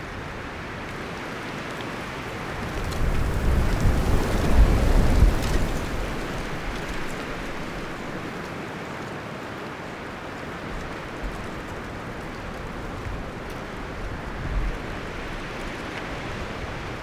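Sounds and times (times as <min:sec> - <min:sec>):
wind rustling forest leaves: 0:00.0 - 0:17.0.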